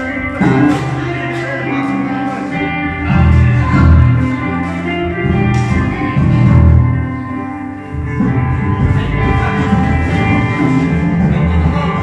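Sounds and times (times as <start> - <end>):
bass guitar low notes: 0.0 - 12.0
electric guitar: 0.0 - 12.0
keyboard: 0.0 - 12.0.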